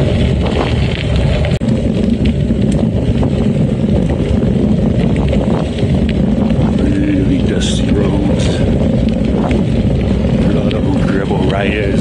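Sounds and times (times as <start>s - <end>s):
bike rattles and knocks: 0.0s - 12.0s
tyres crunching over gravel: 0.0s - 12.0s
wind buffeting microphone: 0.0s - 12.0s.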